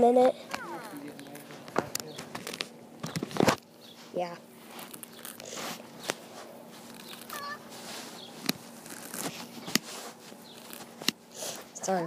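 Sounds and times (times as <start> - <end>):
grass rustling: 0.0 - 12.0.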